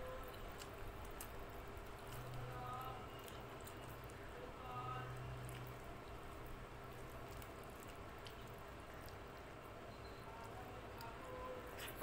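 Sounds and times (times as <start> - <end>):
fingers squishing wet food: 0.0 - 12.0
steady low hum: 0.0 - 12.0.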